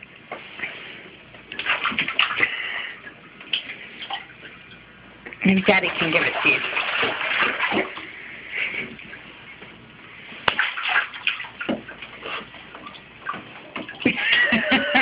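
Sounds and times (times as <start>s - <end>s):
bathwater sloshing and splashing: 0.0s - 15.0s.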